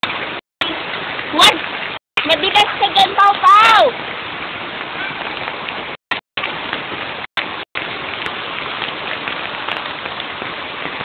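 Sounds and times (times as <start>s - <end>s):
rain on concrete: 0.0s - 11.0s.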